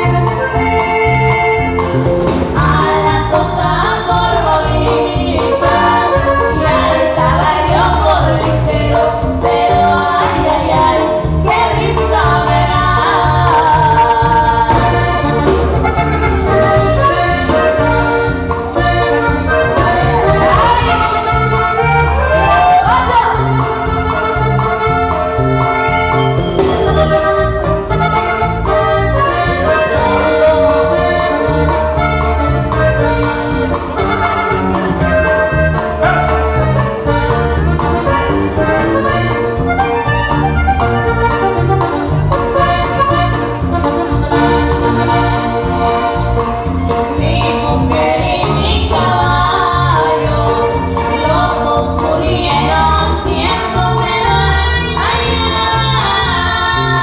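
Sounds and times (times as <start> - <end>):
accordion: 0.0 - 57.0
live dance band music: 0.0 - 57.0.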